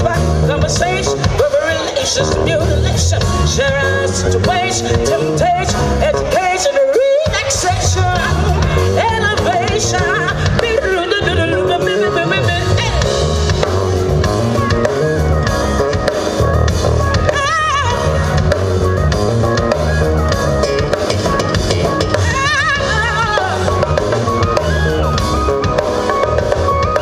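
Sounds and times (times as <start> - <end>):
music with drum beat and heavy bass: 0.0 - 27.0.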